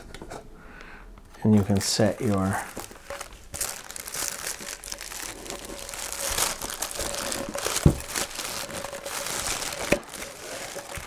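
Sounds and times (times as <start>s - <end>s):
packing paper crumpling: 1.4s - 11.0s.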